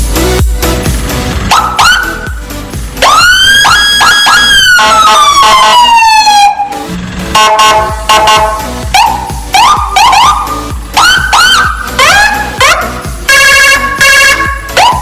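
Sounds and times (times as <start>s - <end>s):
electronic siren: 1.5s - 2.3s, 3.0s - 15.0s.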